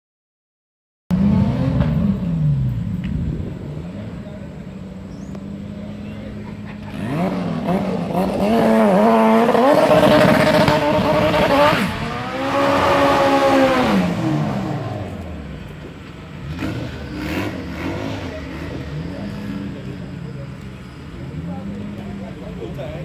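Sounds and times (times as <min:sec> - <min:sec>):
car engine revving: 0:01.1 - 0:23.0.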